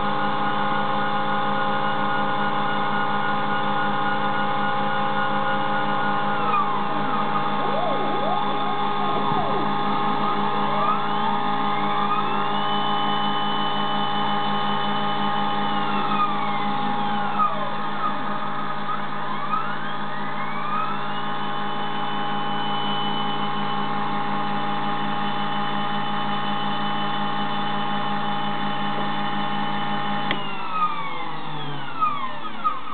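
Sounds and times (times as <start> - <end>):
grinding wheel motor hum: 0.0 - 32.9
stepper motors whining: 0.0 - 32.9.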